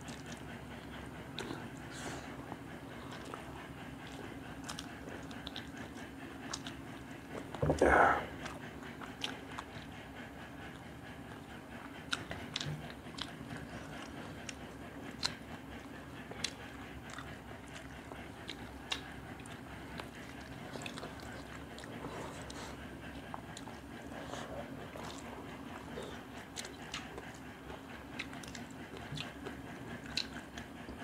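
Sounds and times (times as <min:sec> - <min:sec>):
chewing and mouth smacks: 0:00.0 - 0:31.0.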